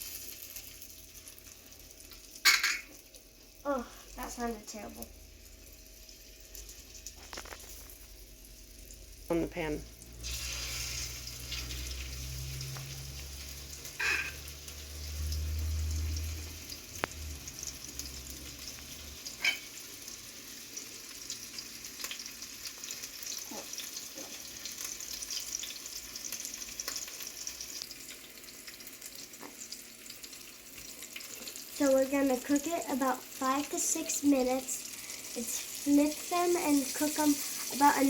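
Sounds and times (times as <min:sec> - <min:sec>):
meat sizzling in oil: 0:00.0 - 0:38.0.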